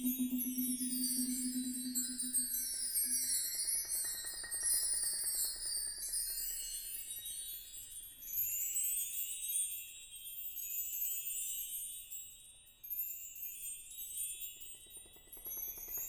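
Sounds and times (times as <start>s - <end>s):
ringing metallic percussion: 0.0s - 16.0s.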